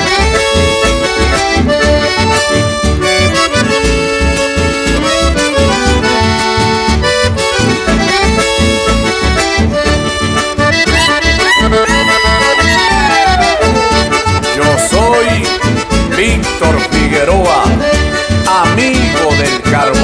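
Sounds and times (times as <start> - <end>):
accordion melody: 0.0 - 20.0
band playing folk music: 0.0 - 20.0.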